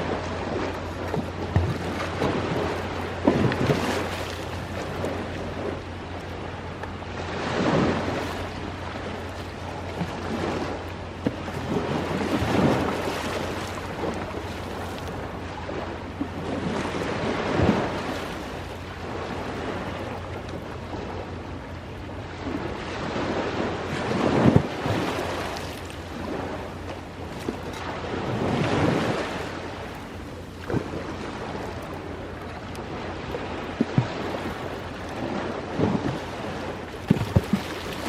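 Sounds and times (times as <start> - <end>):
ocean waves washing ashore: 0.0 - 38.0.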